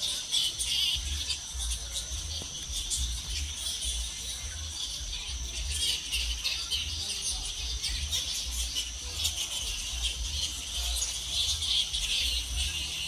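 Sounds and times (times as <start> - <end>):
bats squeaking and chattering: 0.0 - 13.0
steady high hiss: 0.0 - 13.0.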